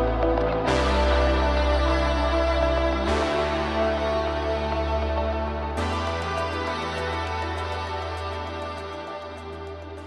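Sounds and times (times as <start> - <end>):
low bass note: 0.0 - 10.0
sustained chords: 0.0 - 10.0.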